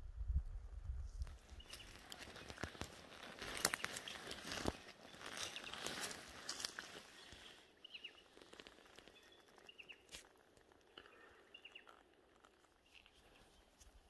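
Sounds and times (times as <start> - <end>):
light ticks and rustles: 1.1 - 14.0
bird chirping: 1.5 - 2.8, 3.5 - 14.0.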